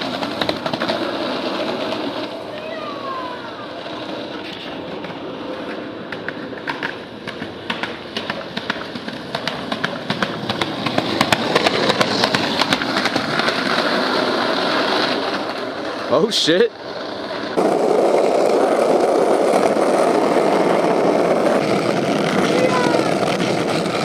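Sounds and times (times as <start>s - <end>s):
skateboard wheels rumbling: 0.0s - 24.0s
wheels clicking over cracks: 0.0s - 24.0s.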